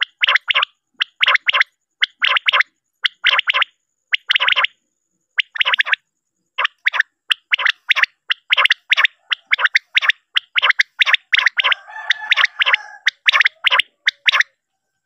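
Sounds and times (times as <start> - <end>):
quail calling: 0.0 - 4.8, 5.4 - 6.0, 6.6 - 14.6.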